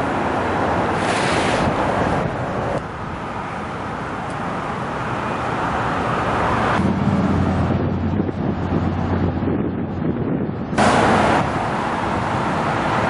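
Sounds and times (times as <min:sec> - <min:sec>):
passing road traffic: 0:00.0 - 0:13.0.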